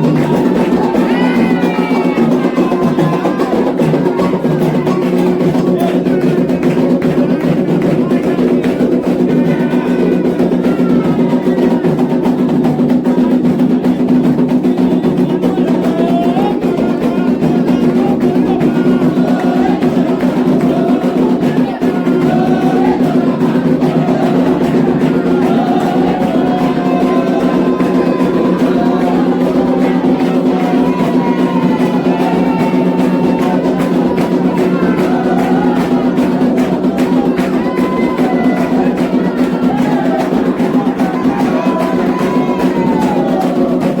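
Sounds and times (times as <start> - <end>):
hand drums beating fast rhythm: 0.0 - 44.0
voices singing a chant: 0.0 - 44.0.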